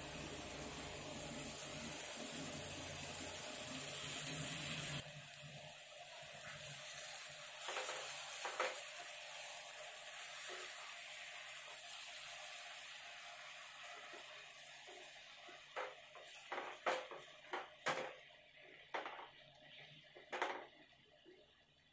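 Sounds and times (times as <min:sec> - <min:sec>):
chutney bubbling and sizzling: 0:00.0 - 0:21.9.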